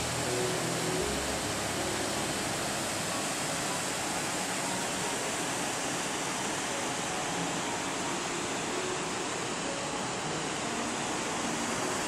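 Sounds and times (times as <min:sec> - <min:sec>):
waterfall rushing into a pool: 0:00.0 - 0:12.0.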